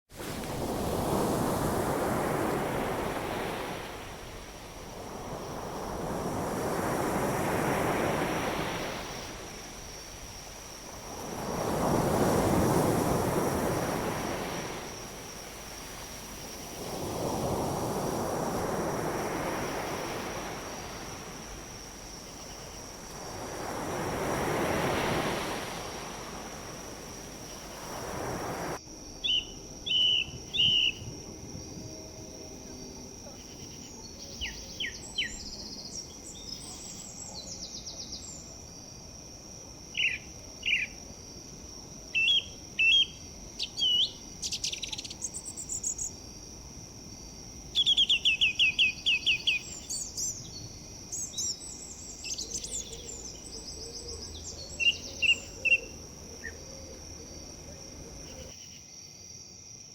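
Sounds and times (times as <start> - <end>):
wind rustling tree leaves: 0.1 - 59.8.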